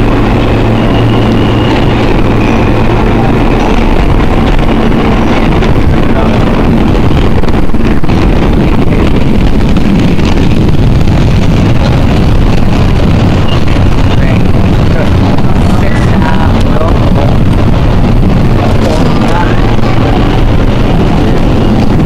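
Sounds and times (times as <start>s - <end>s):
subway train running in tunnel: 0.0s - 22.0s.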